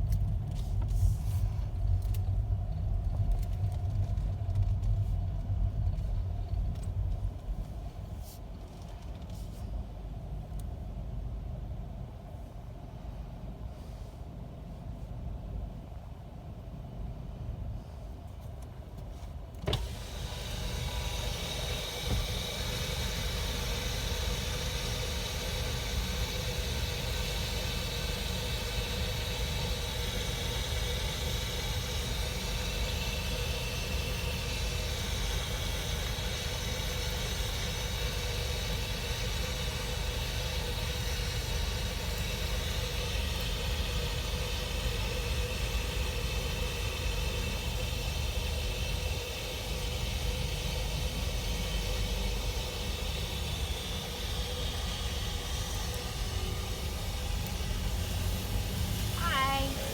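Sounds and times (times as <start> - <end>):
faint constant hum: 0.0 - 19.7, 23.6 - 59.9
car engine and road rumble: 0.0 - 59.9.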